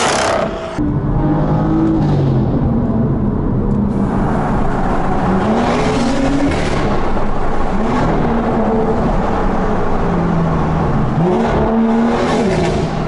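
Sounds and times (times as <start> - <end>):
car exhaust accelerating: 0.0 - 13.0.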